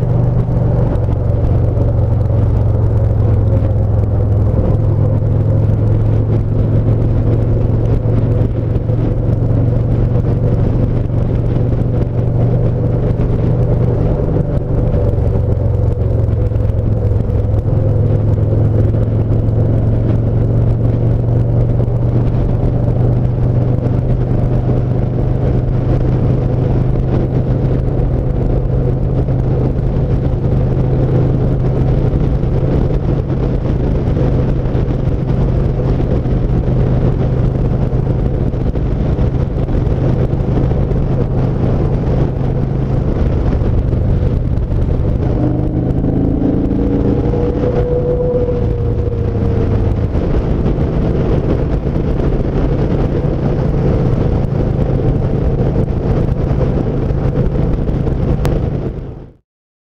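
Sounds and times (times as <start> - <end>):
motorcycle engine running: 0.0 - 59.3
road noise: 0.0 - 59.4.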